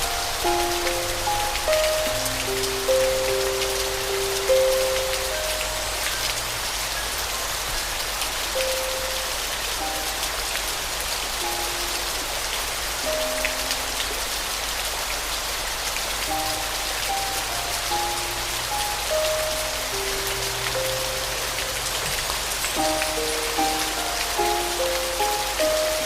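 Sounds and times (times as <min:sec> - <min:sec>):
soft piano melody: 0:00.0 - 0:26.0
steady rain: 0:00.0 - 0:26.0.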